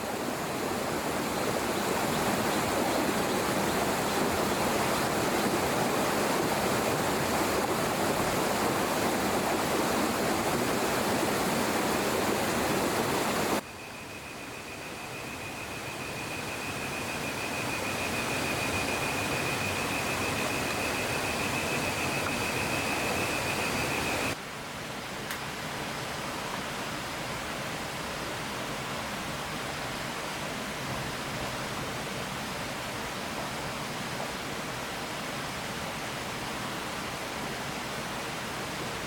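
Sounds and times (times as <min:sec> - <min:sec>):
flowing water rushing: 0:00.0 - 0:13.6, 0:17.0 - 0:39.0.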